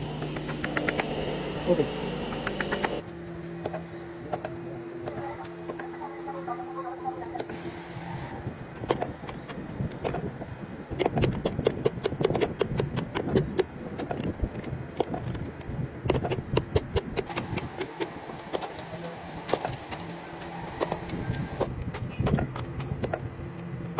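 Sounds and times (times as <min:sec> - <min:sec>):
steady rumble: 0:00.0 - 0:23.9.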